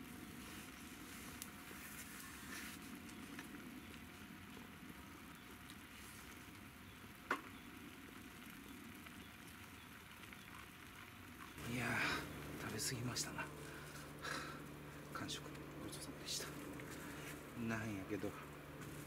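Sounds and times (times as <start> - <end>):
wood fire burning faintly: 0.0 - 19.0.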